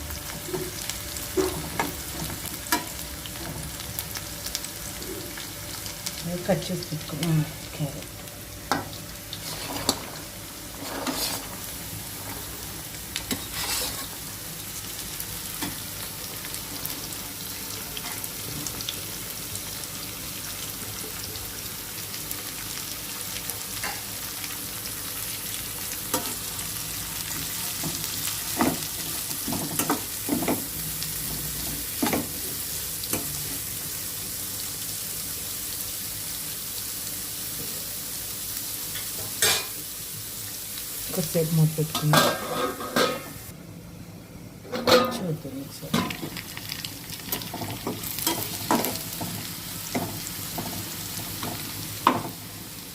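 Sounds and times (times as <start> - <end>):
vegetables sizzling in oil: 0.0 - 44.3, 45.1 - 52.9.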